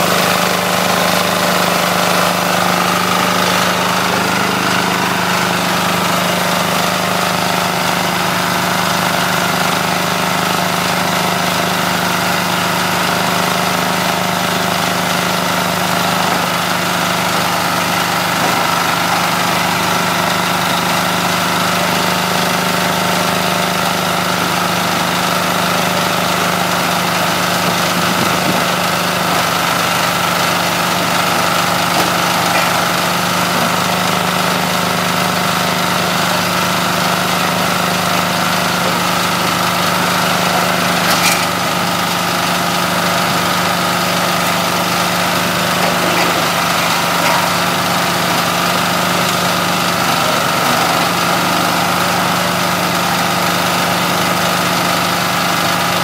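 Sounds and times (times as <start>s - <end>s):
shredder engine hum: 0.0s - 56.0s.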